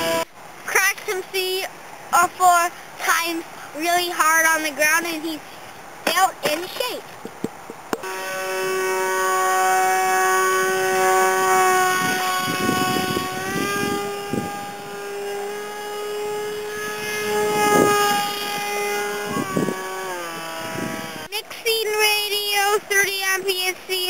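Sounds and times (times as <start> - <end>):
propeller motor whining: 0.0 - 24.0.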